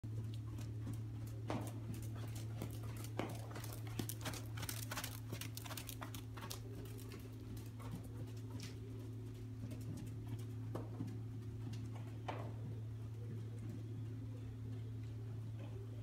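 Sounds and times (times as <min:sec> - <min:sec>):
horse hoofbeats on sand: 0:00.0 - 0:16.0
steady low hum: 0:00.0 - 0:16.0.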